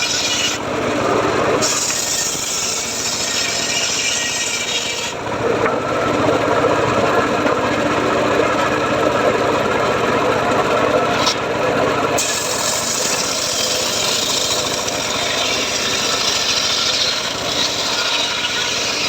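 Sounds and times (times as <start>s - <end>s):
circular saw cutting wood: 0.0s - 19.0s.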